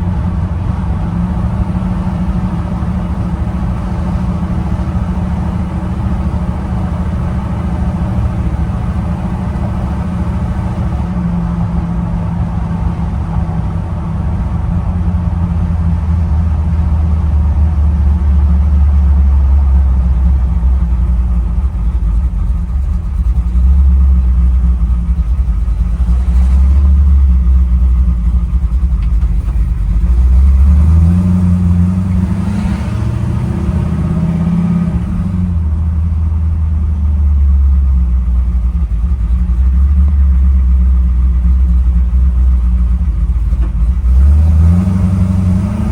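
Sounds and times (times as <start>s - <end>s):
truck engine running: 0.0s - 45.9s.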